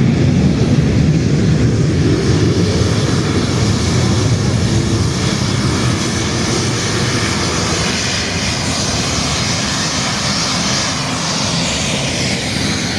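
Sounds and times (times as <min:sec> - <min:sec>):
jet engines roaring: 0:00.0 - 0:12.9.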